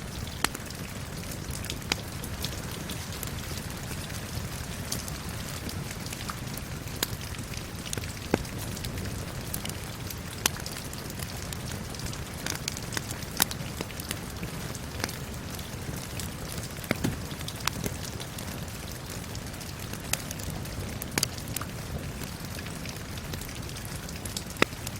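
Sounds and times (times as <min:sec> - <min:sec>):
fire popping and snapping: 0:00.0 - 0:24.9
steady rain: 0:00.0 - 0:24.9.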